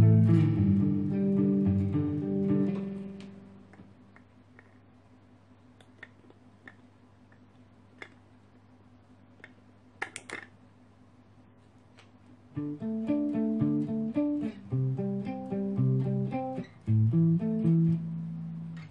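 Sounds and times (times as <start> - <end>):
guitar amp hum: 0.0 - 8.5, 11.8 - 18.9.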